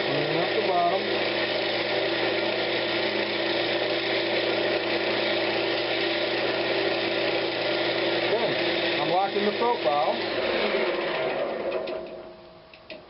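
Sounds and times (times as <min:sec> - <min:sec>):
wood lathe motor hum: 0:00.0 - 0:13.0.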